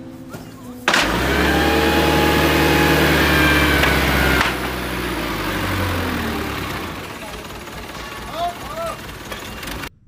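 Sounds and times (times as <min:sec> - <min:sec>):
vehicle engine running: 0:00.9 - 0:10.0.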